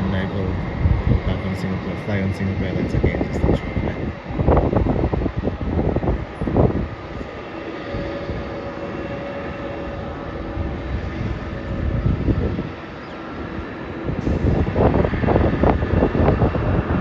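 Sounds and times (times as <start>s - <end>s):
distant jet engines droning: 0.0s - 17.0s
low rumbling gusts: 0.0s - 17.0s.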